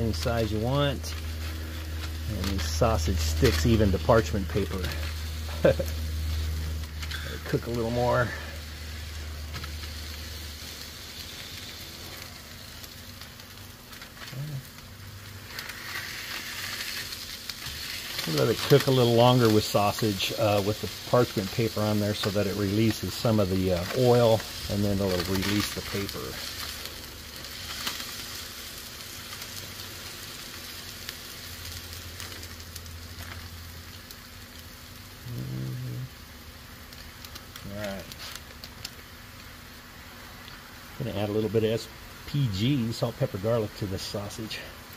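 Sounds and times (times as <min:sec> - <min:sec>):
sausage sizzling on a griddle: 0:00.0 - 0:44.9.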